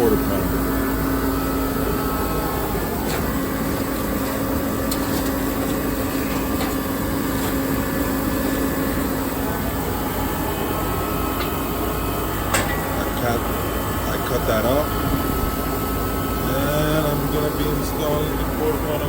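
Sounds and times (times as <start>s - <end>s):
machinery droning hum: 0.0s - 19.0s.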